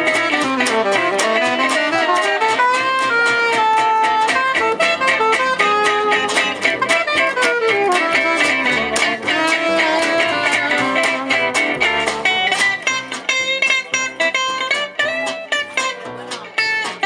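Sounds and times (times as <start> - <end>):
guitar strumming: 0.0 - 17.0
gypsy jazz band playing: 0.0 - 17.0.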